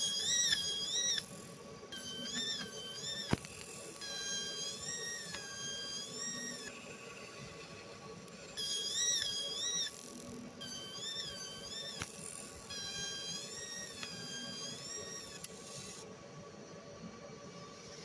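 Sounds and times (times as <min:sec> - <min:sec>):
laser cutting high-pitched squeal: 0:00.0 - 0:16.0.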